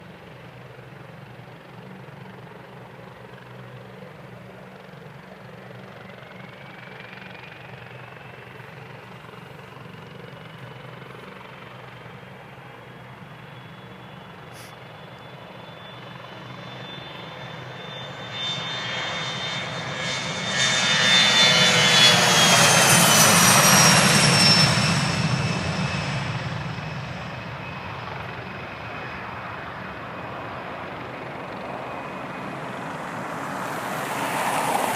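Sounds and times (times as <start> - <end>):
airplane engine taking off: 0.0 - 34.9.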